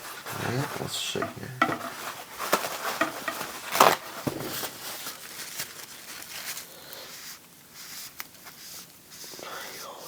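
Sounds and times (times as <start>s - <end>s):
rustling: 0.0s - 10.0s.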